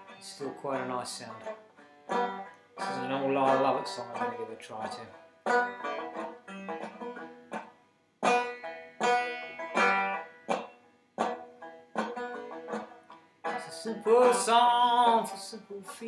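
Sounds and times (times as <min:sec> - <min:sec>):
banjo strummed in chords: 0:00.0 - 0:16.0.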